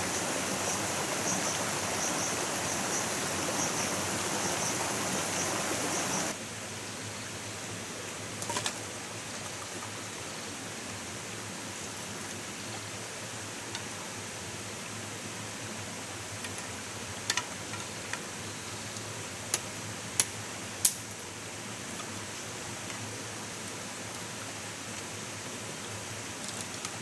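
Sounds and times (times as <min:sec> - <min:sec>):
running water hiss: 0:00.0 - 0:27.0.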